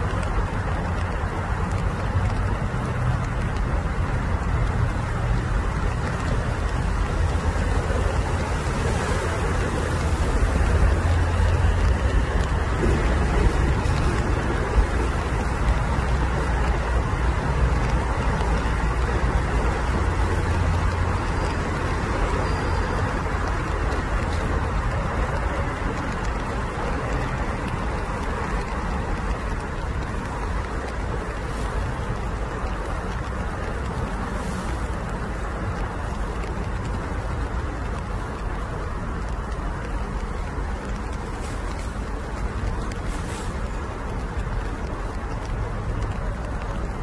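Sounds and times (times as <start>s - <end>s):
low rumbling background noise: 0.0s - 47.0s.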